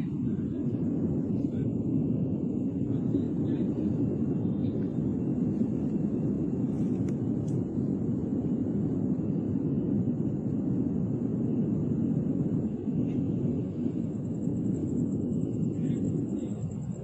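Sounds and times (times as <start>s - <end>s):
volcano rumbling roar: 0.0s - 17.0s.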